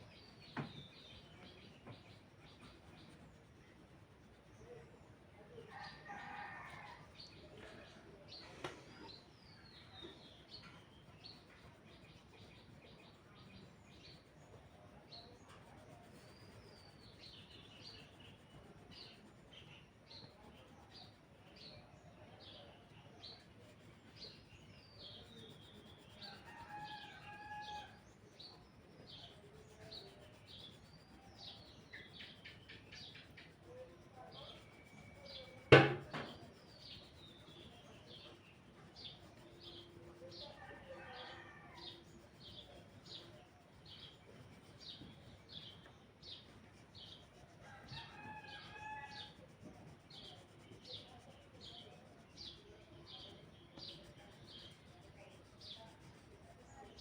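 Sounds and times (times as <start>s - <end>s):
faint bird chirps: 0.0s - 57.0s.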